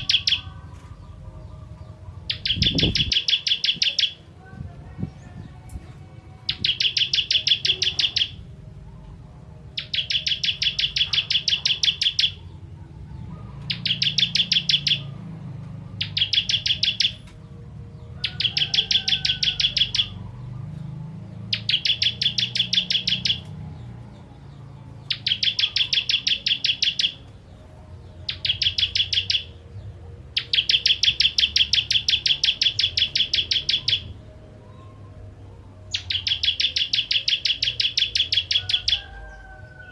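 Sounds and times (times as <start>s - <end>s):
bird singing rapid chip notes: 0.0s - 4.4s, 6.3s - 39.5s.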